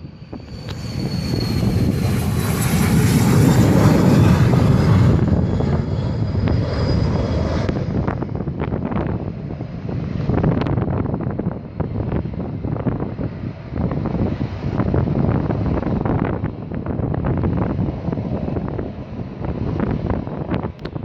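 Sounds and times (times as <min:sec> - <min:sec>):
high jet whine: 0:00.0 - 0:21.0
jet engine roar: 0:00.0 - 0:21.0.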